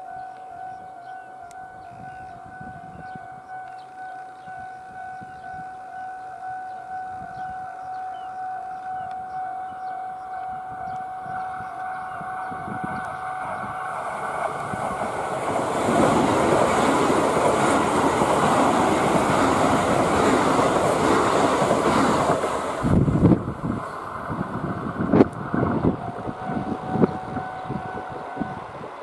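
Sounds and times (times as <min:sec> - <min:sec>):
electric train rumbling: 0:00.0 - 0:29.0
level crossing alarm ringing: 0:00.0 - 0:29.0.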